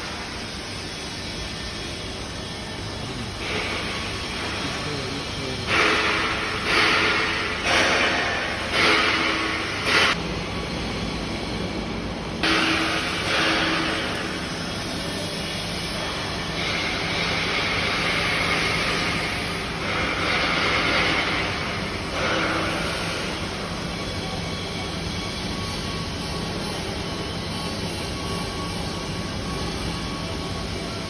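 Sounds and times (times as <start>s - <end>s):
welding arc hissing: 0.1s - 31.0s.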